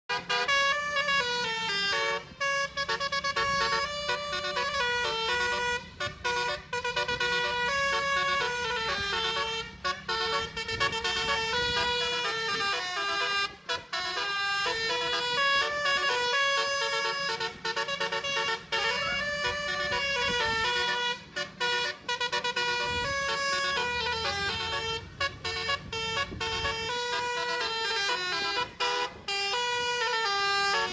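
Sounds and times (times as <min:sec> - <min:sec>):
bus multi-tone horn melody: 0:00.1 - 0:30.9.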